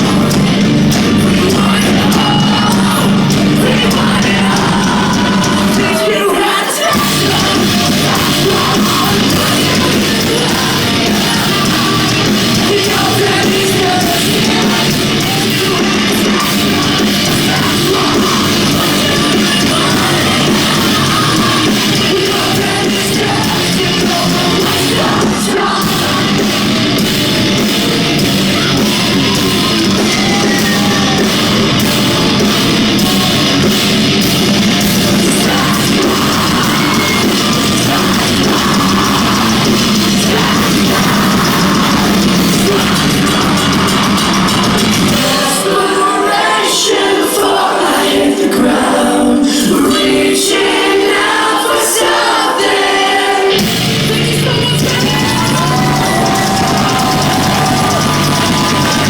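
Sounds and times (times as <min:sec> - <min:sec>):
distorted electric guitars: 0:00.0 - 0:59.0
drums: 0:00.0 - 0:59.0
person singing: 0:00.0 - 0:59.0.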